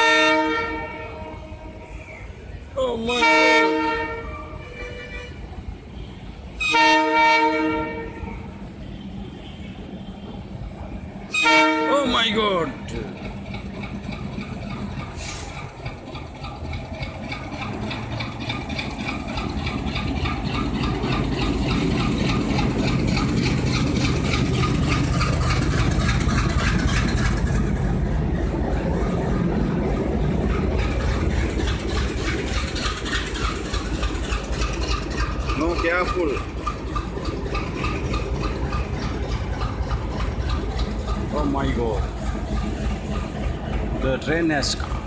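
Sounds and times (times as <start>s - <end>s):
diesel locomotive engine throbbing: 0.0s - 45.0s.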